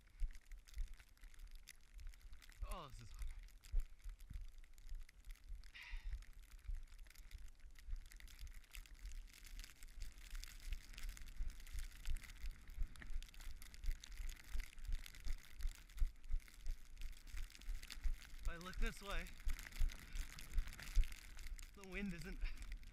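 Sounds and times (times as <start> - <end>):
wind rumbling on microphone: 0.0 - 22.9
running footsteps in snow: 2.2 - 22.9.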